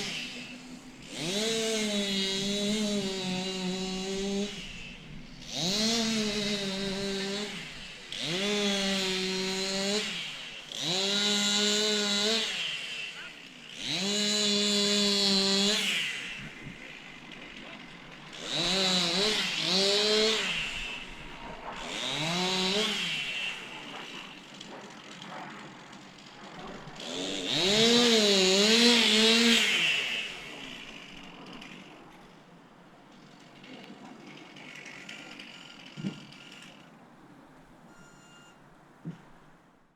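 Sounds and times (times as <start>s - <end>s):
chainsaw cutting wood: 0.0s - 37.0s.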